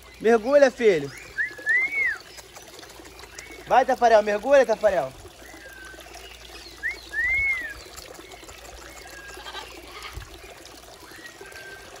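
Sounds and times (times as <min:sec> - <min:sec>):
fountain water trickling: 0:00.0 - 0:12.0.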